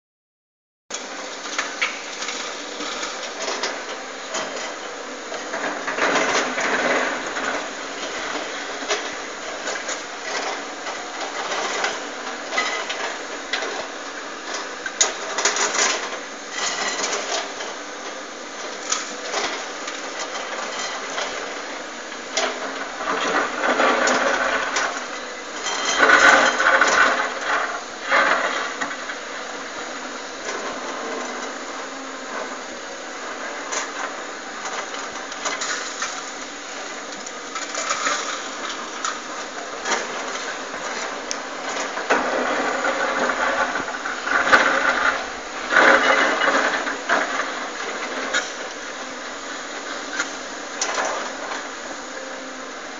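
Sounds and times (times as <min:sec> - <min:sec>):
excavator engine and hydraulics: 0:00.9 - 0:52.9.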